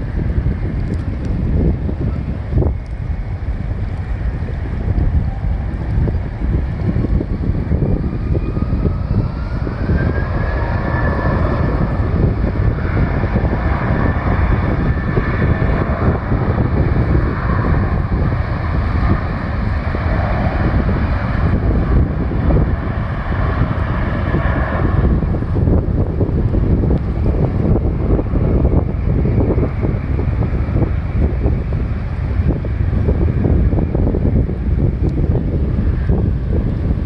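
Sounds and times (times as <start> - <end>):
jet engines rumbling and whining: 0.0 - 37.0
wind buffeting microphone: 0.0 - 37.0.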